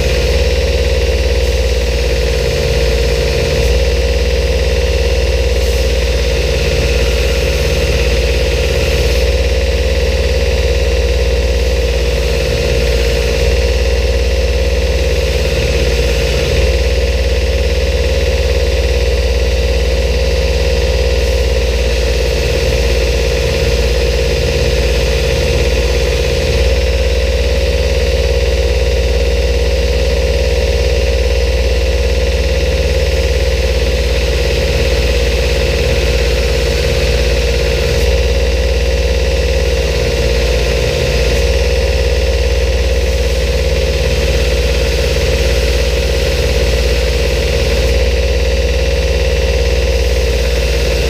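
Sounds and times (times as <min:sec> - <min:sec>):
grinder motor humming: 0:00.0 - 0:51.0.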